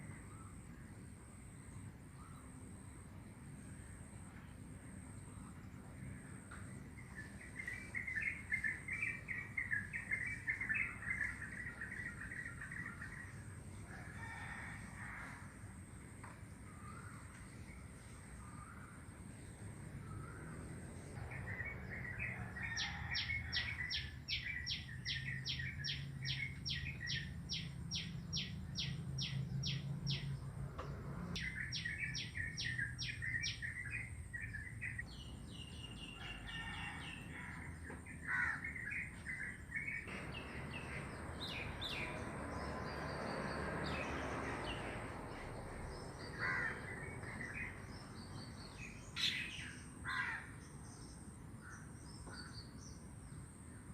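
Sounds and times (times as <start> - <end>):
birds chirping and warbling: 5.2 - 14.9, 16.2 - 53.9.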